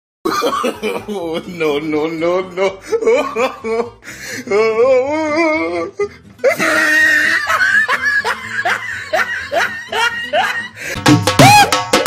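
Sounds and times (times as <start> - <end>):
music: 0.3 - 12.0
person laughing: 0.3 - 12.0.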